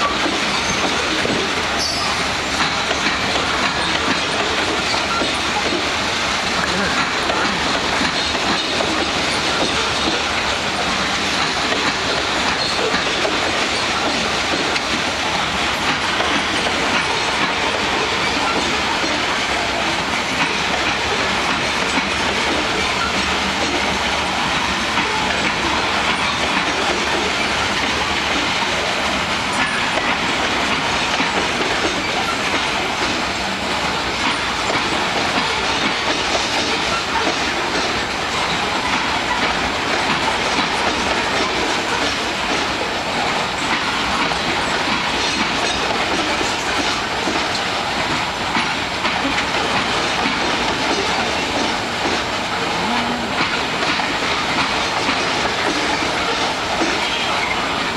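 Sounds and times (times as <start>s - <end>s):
freight train wheels on rails: 0.0s - 57.9s.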